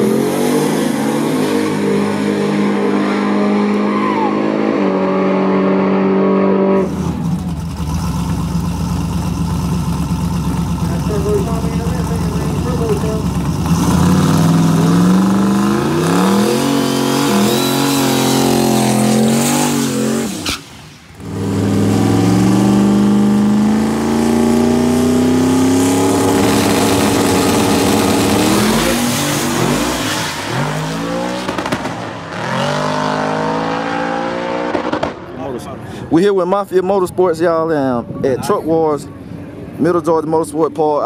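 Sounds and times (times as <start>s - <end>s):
truck engine revving at full throttle: 0.0s - 9.4s, 10.6s - 35.3s.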